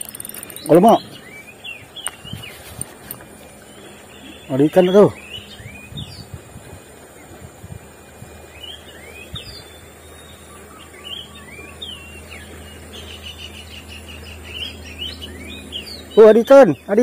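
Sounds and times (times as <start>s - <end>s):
birds chirping: 0.0s - 7.6s, 8.3s - 17.0s.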